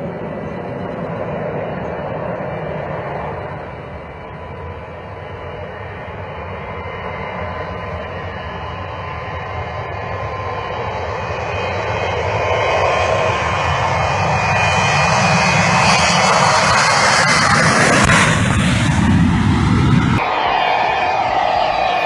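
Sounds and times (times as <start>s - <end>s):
airplane engine noise: 0.0s - 22.0s.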